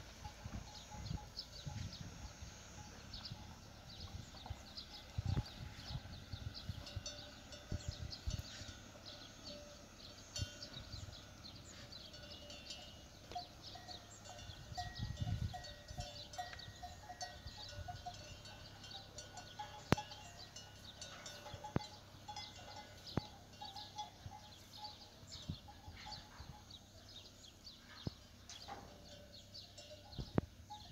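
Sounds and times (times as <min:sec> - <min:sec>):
cowbells clanking: 0:00.0 - 0:30.9
small birds chirping: 0:00.0 - 0:30.9.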